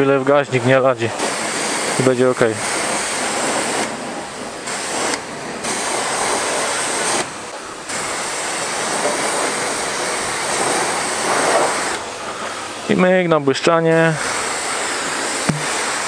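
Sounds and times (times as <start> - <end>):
pressure washer spraying water: 0.0 - 16.0.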